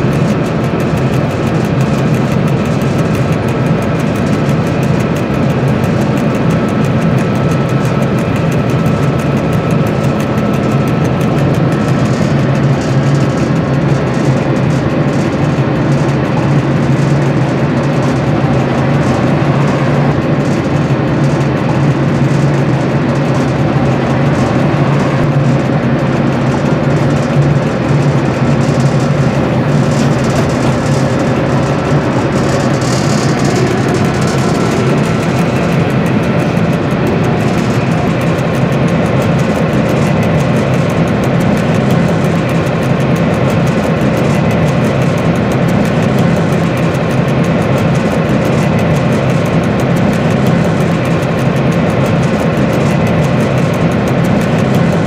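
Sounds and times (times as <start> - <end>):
locomotive engine running: 0.0 - 55.0.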